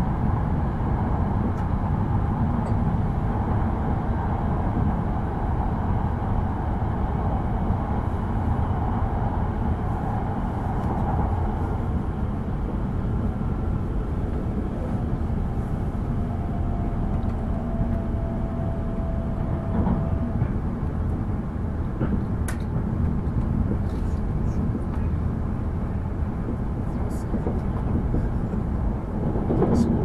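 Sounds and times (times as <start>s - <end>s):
train cabin low rumble: 0.0s - 30.0s.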